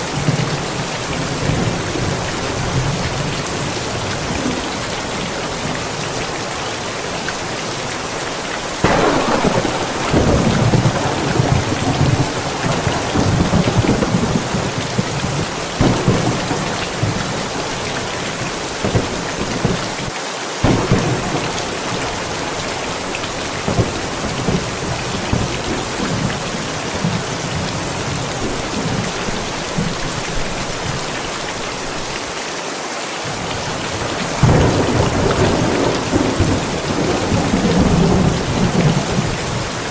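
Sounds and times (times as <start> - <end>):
steady rain: 0.0 - 39.9
thunder rumbling: 0.1 - 31.0, 33.3 - 39.9.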